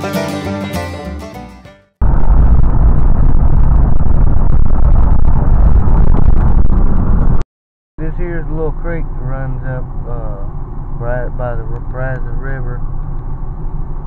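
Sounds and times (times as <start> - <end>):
vehicle rumbling on the move: 2.0 - 7.4, 8.0 - 14.0.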